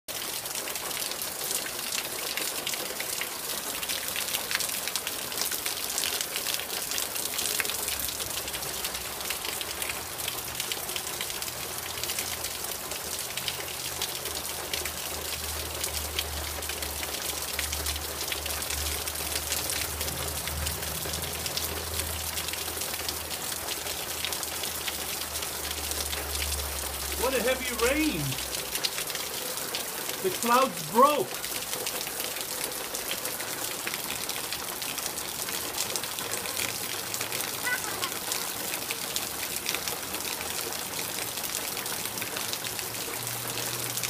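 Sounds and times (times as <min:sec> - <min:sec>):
heavy rain falling: 0:00.1 - 0:44.0.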